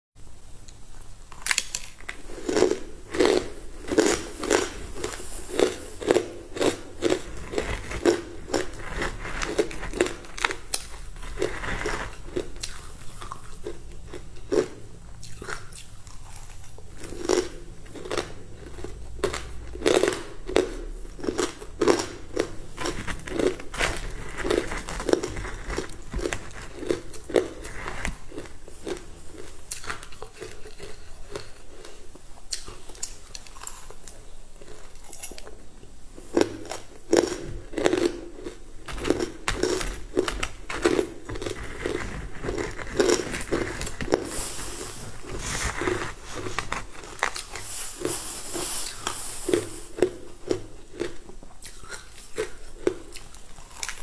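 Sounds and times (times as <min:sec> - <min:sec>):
crunching and chewing food: 0:00.7 - 0:54.0.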